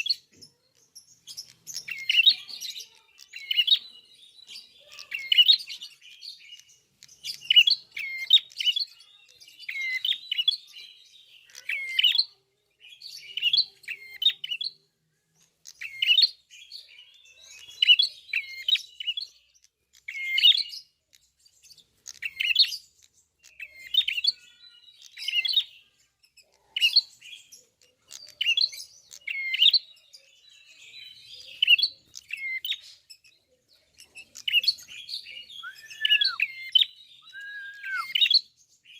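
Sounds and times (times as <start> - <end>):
bird singing sharp chirps: 0.0 - 14.8, 15.6 - 26.0, 26.8 - 38.9.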